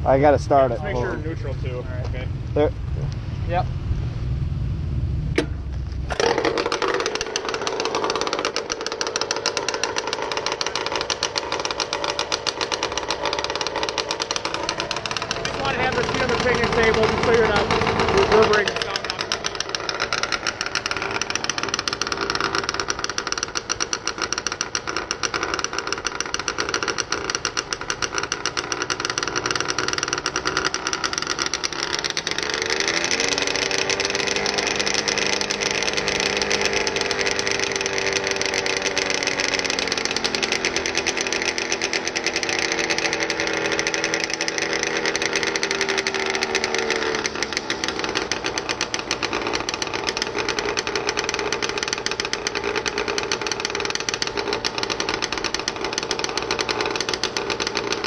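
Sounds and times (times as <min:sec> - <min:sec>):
quad engine revving: 0:05.4 - 0:58.0.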